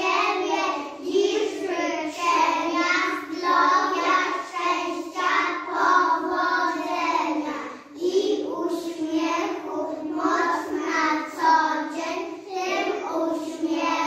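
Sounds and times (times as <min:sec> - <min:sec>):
children singing in unison: 0:00.0 - 0:14.0.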